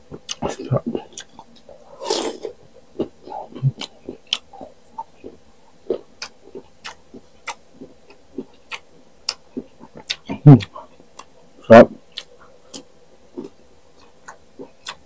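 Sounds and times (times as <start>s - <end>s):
chewing crisp mango: 0.3s - 11.3s, 12.1s - 15.0s.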